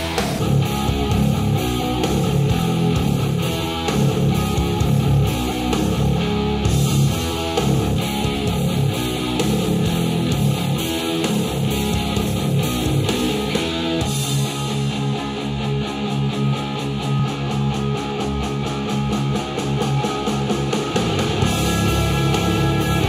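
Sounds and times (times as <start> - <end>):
rock music through speakers: 0.0 - 23.0.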